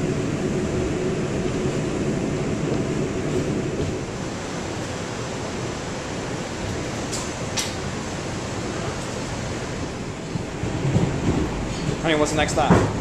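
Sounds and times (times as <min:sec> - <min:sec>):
subway car running noise: 0:00.0 - 0:13.0.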